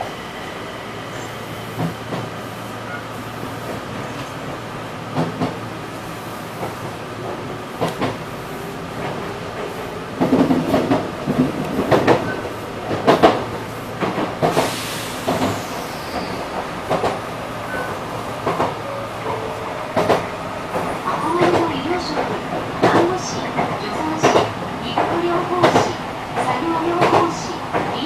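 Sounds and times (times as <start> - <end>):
train running noise: 0.0 - 28.0
wheels clacking on rails: 1.7 - 28.0.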